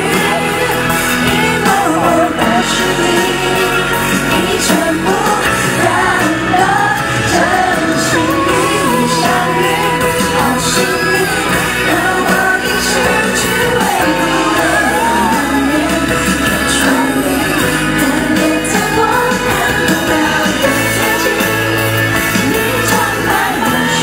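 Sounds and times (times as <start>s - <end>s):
pop song with sung vocal: 0.0s - 24.0s.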